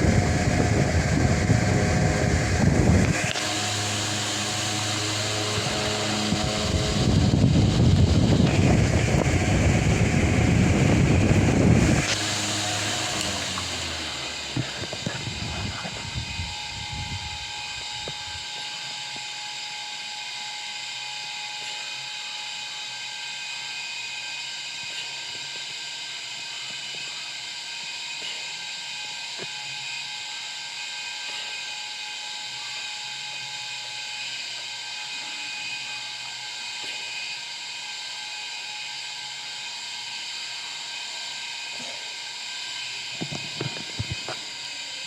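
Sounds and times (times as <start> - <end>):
faint fan whine: 0.0 - 45.0
wall fan air rush: 0.0 - 45.0.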